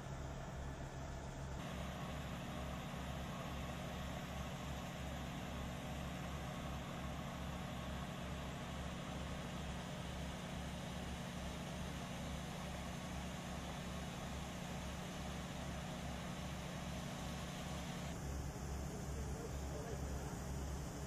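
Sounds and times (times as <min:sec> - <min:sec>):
low pulsing hum: 0:00.0 - 0:18.2
helicopter engine and rotor drone: 0:00.0 - 0:21.0.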